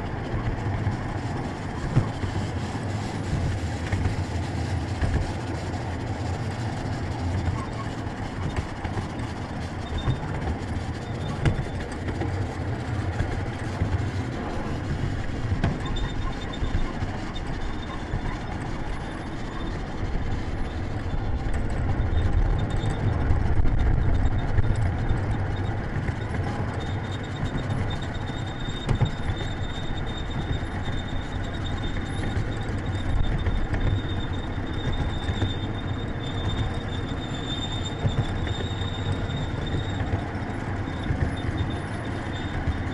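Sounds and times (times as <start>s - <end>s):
miniature train rumbling on track: 0.0s - 42.9s.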